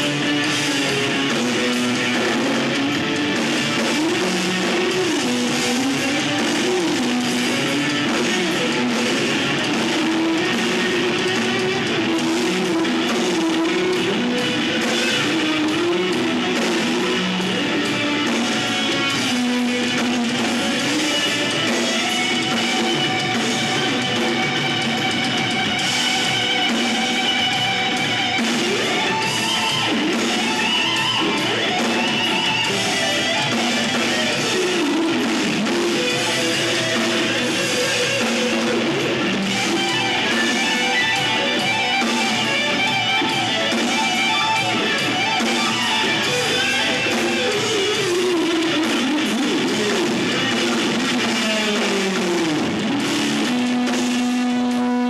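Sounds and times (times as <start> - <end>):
electric guitar bending notes: 0.0 - 55.0
rock band backing: 0.0 - 55.0.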